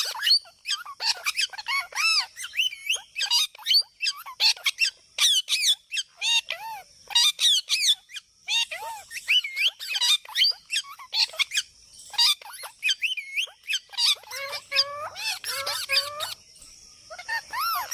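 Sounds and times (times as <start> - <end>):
parrot squawking and chattering: 0.0 - 16.4, 17.1 - 17.9.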